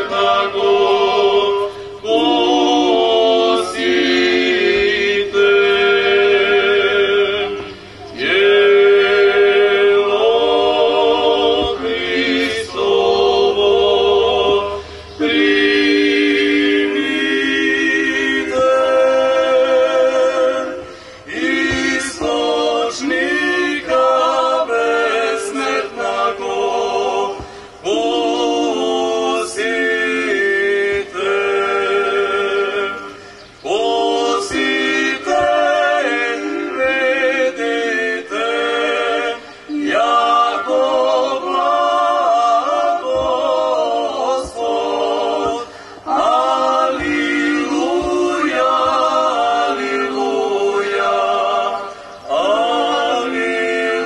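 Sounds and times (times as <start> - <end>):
vocal group singing a cappella: 0.0 - 54.0.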